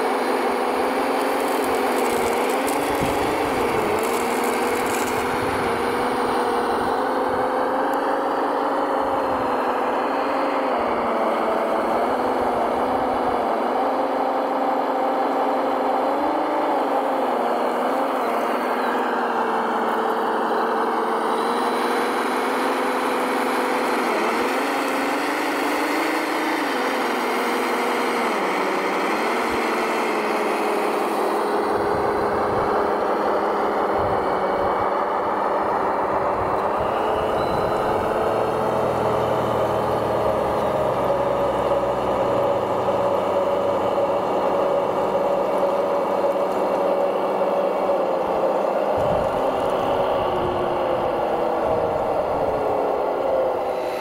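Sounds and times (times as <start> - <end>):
model truck motor droning: 0.0 - 54.0.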